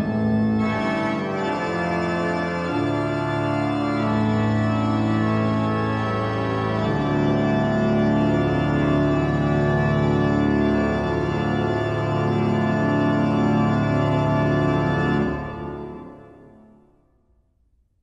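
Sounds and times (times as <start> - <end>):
sustained organ chords: 0.0 - 16.7.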